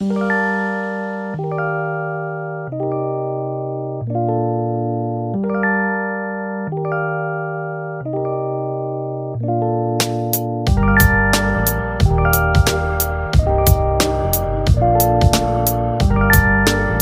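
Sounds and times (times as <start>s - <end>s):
electric piano chords: 0.0s - 17.0s.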